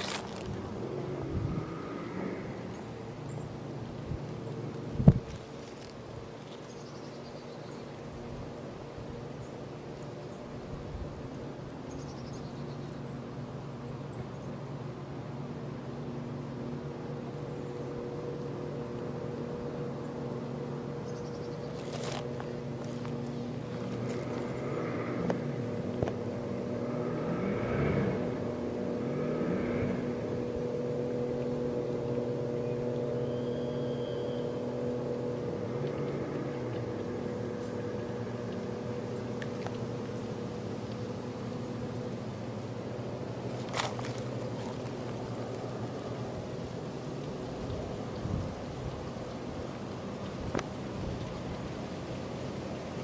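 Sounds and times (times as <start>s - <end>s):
motor droning: 0.0s - 53.0s.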